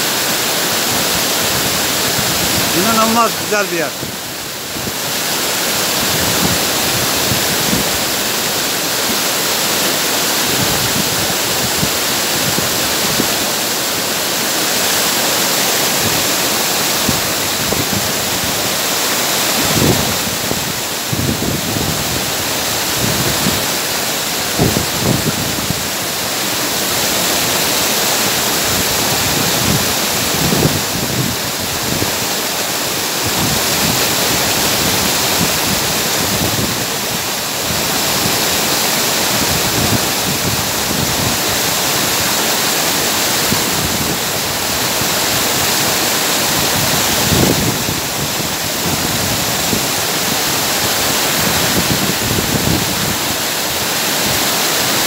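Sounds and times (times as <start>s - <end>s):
waterfall rushing onto rocks: 0.0s - 55.0s.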